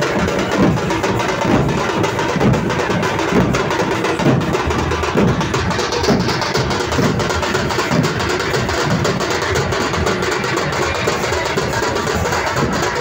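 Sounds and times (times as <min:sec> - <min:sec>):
dhol drums beaten with sticks: 0:00.0 - 0:13.0.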